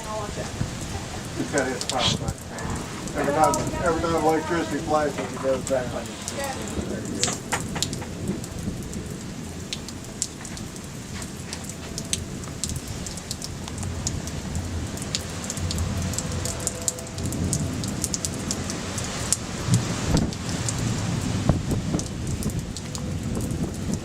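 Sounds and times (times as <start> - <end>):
heavy rain falling: 0.0 - 24.0
thunder rumble: 0.0 - 24.0.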